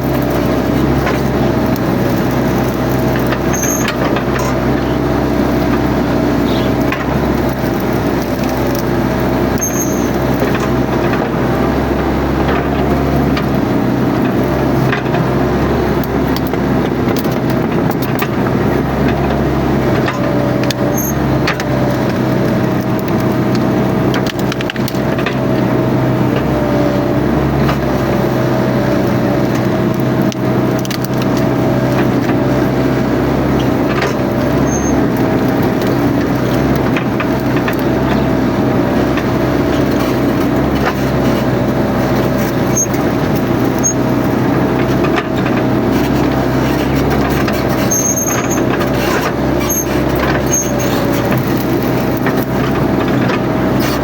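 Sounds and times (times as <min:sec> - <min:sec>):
branches cracking and snapping: 0:00.0 - 0:06.1, 0:06.8 - 0:11.0, 0:12.6 - 0:47.9, 0:48.6 - 0:54.0
excavator engine running: 0:00.0 - 0:54.0.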